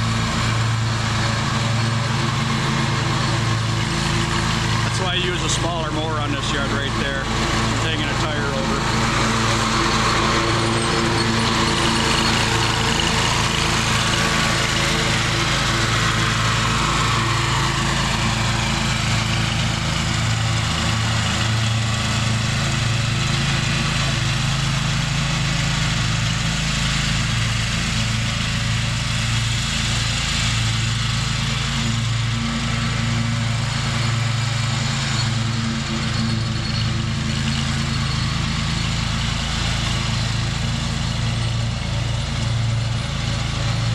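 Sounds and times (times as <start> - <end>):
mower engine running: 0.0 - 43.9.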